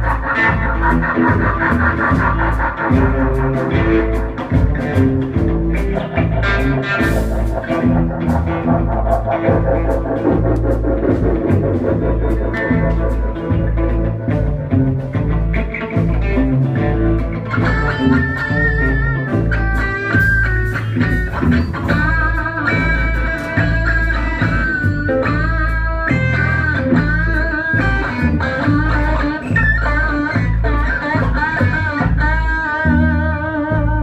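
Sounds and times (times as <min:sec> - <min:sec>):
wavering lead melody: 0:00.0 - 0:31.0
band playing instrumental: 0:00.0 - 0:34.0.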